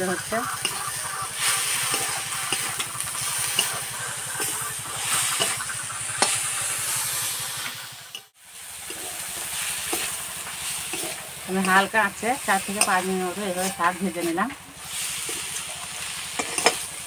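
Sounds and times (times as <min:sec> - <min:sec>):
greens sizzling in a wok: 0:00.0 - 0:17.0
low throbbing motor hum: 0:00.0 - 0:17.0
metal spatula scraping pan: 0:00.1 - 0:17.0.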